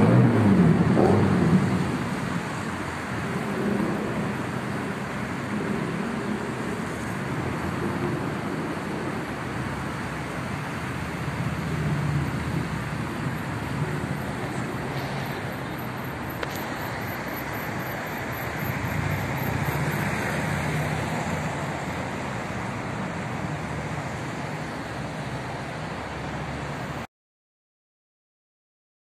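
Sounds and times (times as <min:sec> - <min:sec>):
cars passing on street: 0:00.0 - 0:27.1.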